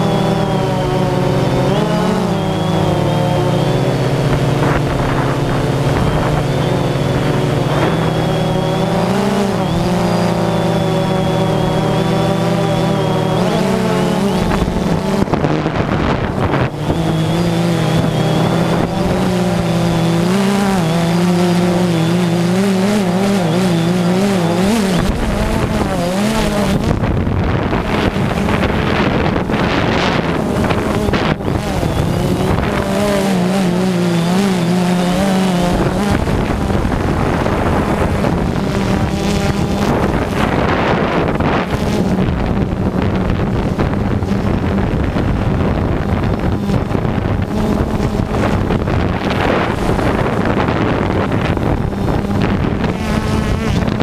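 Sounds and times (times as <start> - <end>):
drone propellers humming: 0.0 - 54.0
wind on microphone: 0.0 - 54.0.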